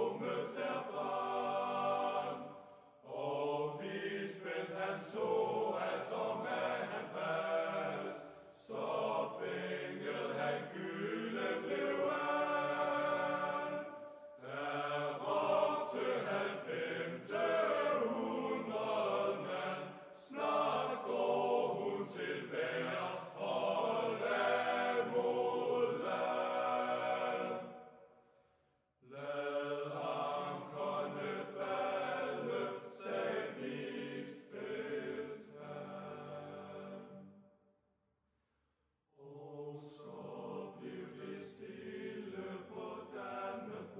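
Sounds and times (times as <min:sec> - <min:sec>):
choral singing: 0:00.0 - 0:28.2, 0:29.0 - 0:37.5, 0:39.2 - 0:43.9.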